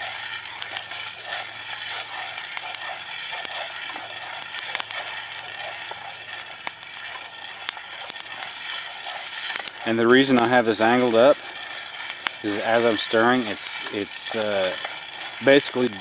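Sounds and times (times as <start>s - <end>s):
beans popping: 0.0s - 16.0s
coffee beans rattling in a pan: 0.0s - 16.0s
wooden spoon stirring: 0.0s - 16.0s.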